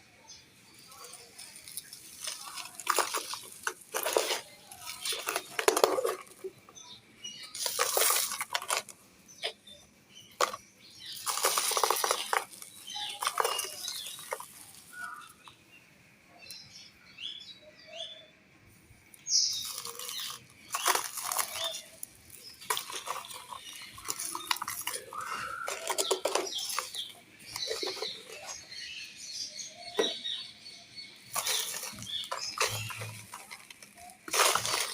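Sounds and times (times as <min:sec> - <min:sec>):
clay and sand crunching by hand: 0:00.7 - 0:15.5, 0:19.2 - 0:34.9.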